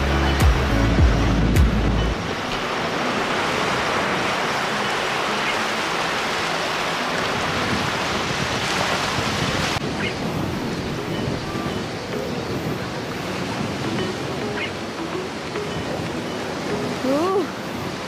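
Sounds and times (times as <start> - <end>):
small waves washing on sand: 2.2 - 18.0.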